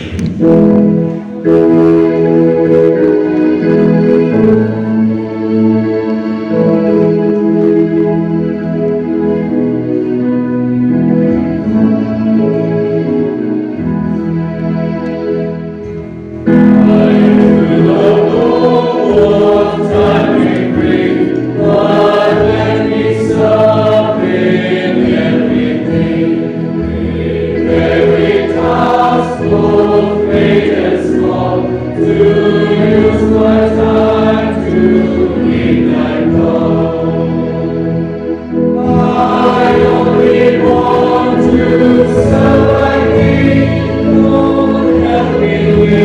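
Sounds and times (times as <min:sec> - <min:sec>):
congregation singing a hymn: 0:00.0 - 0:46.0
organ playing: 0:00.0 - 0:46.0.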